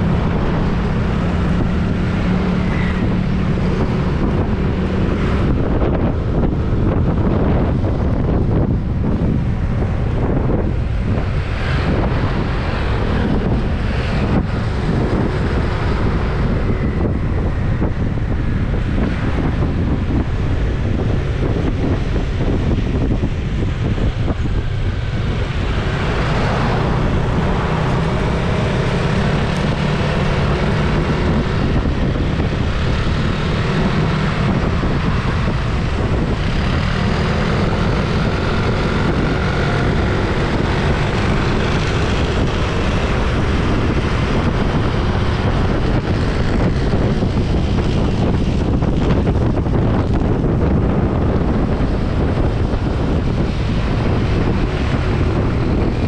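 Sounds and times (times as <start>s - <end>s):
vehicle running along road: 0.0s - 56.0s
wind buffeting microphone: 0.0s - 56.0s.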